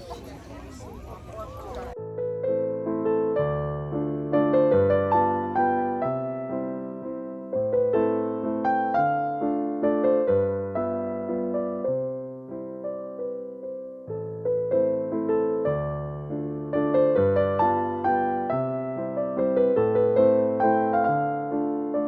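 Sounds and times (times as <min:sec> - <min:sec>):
slow gentle piano music: 0:01.7 - 0:22.0.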